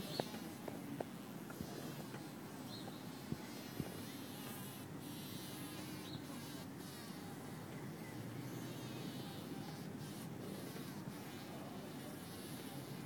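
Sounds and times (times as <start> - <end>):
bee buzzing: 0.0 - 7.2, 8.6 - 13.0.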